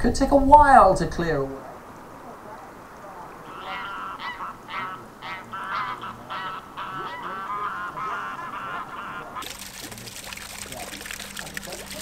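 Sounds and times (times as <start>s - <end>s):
geese honking: 1.6s - 12.0s.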